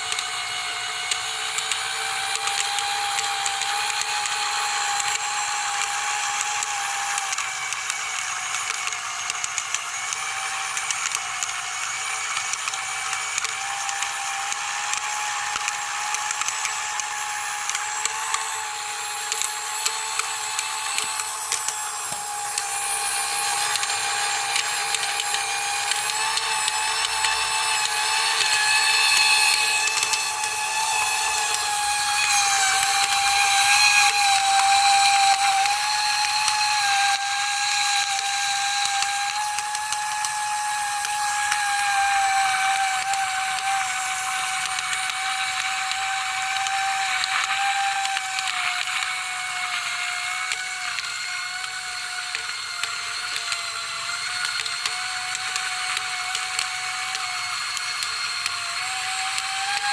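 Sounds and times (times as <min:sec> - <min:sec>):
small electric motor whining: 0:00.0 - 0:59.9.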